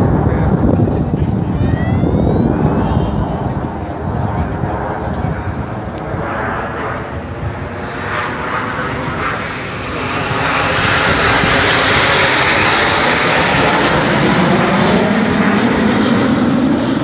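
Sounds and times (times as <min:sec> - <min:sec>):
deep rumble: 0:00.0 - 0:16.2
aircraft engines rushing: 0:00.0 - 0:17.0.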